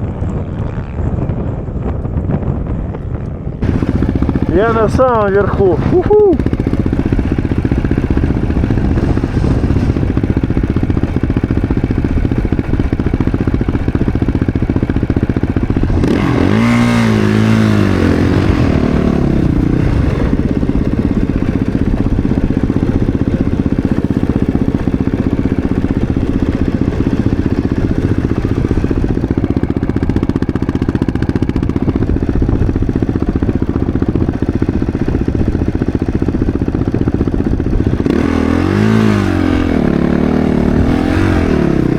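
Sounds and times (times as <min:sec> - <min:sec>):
snowbike engine revving: 0:03.6 - 0:41.9.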